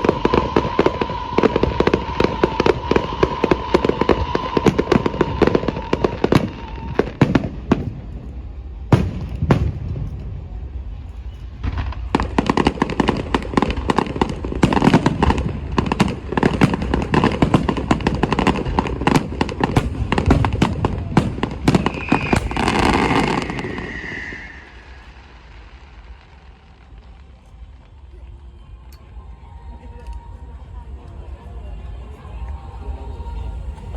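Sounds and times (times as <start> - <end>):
fireworks hissing: 0.0 - 28.1
fireworks bangs and crackles: 0.0 - 33.9.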